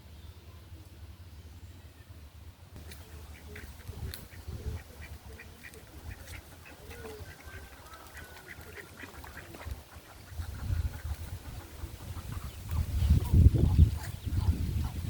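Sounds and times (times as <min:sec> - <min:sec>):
ducks quacking: 0:02.8 - 0:15.0.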